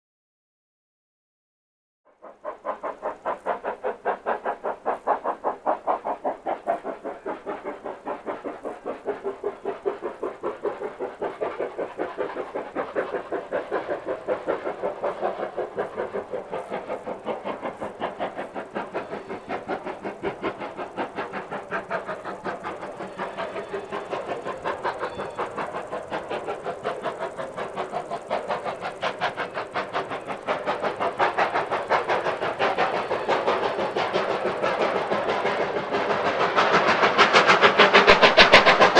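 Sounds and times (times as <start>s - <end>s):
steam locomotive chuffing: 2.1s - 38.9s.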